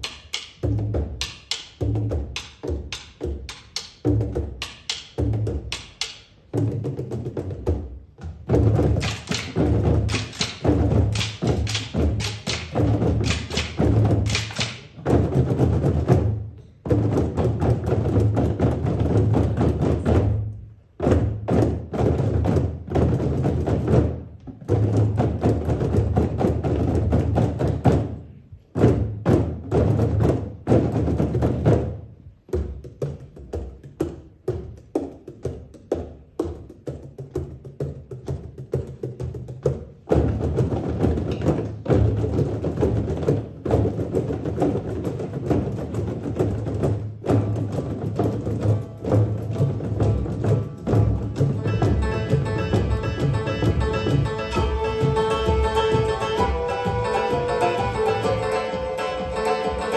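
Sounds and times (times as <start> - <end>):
frame drums beating in unison: 0.0 - 59.9.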